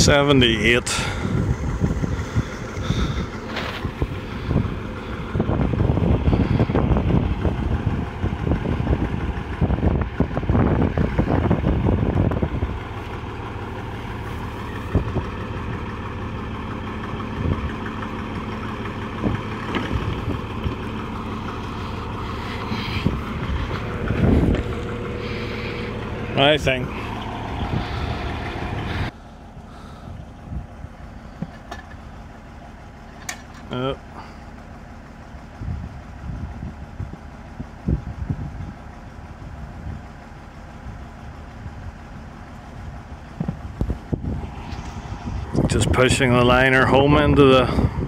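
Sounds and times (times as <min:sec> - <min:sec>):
drilling rig engine running: 0:00.0 - 0:48.0.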